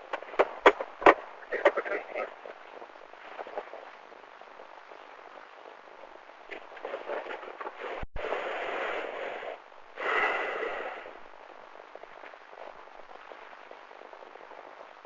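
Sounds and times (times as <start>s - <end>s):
crackling noise bursts: 0.0s - 15.0s.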